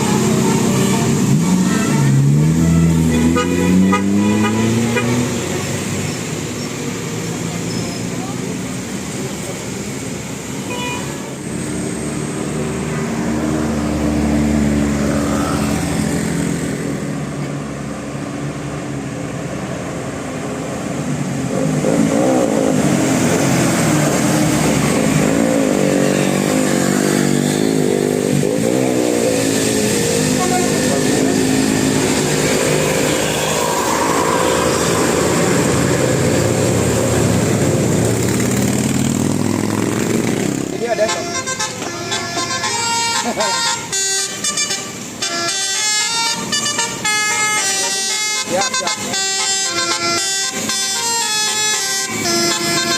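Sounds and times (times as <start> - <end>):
bus engines revving: 0.0 - 52.9.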